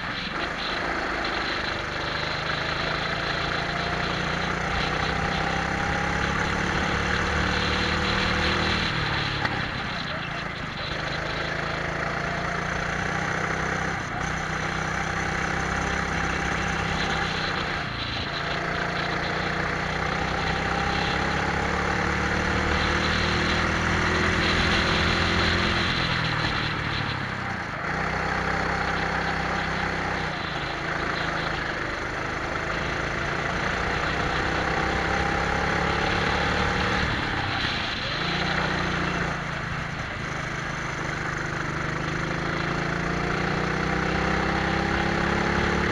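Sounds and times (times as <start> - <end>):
kart engines revving: 0.0 - 45.9.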